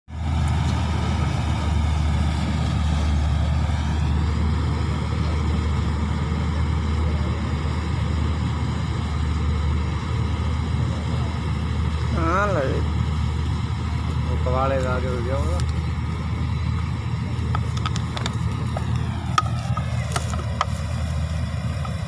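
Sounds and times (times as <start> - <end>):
combine harvester engine drone: 0.0 - 22.0
higher machinery whine: 0.1 - 22.0.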